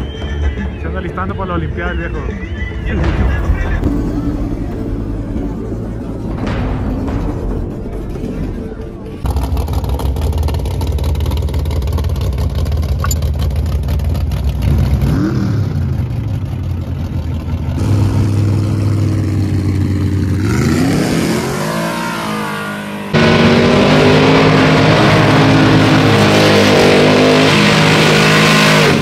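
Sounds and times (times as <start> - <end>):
truck engine idling and revving: 0.0 - 29.0.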